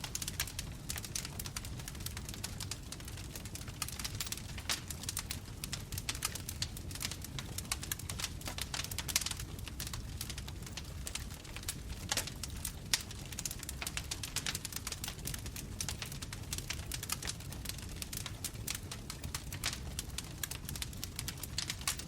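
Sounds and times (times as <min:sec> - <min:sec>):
fire crackling and popping: 0:00.0 - 0:22.0
low rumble of fire: 0:00.0 - 0:22.0.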